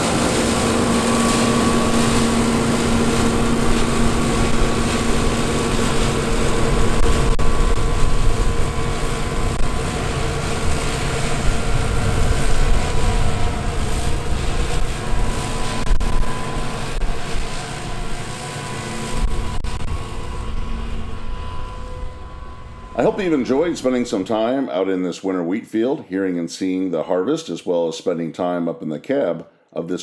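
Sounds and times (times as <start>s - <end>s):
combine harvester running: 0.0s - 24.6s.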